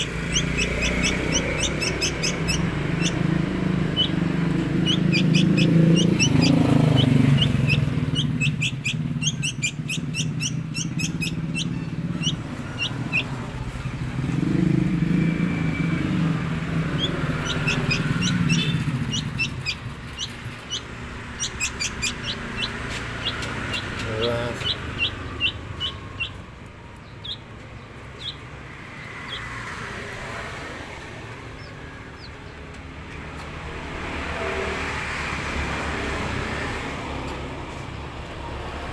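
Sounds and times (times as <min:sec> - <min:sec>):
nestling birds begging chirps: 0:00.0 - 0:35.3
vehicle engine rumbling: 0:00.0 - 0:38.9.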